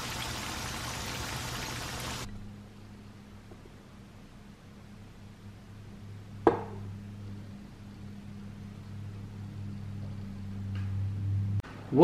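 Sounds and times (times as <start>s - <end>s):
steady low hum: 0.4s - 11.7s.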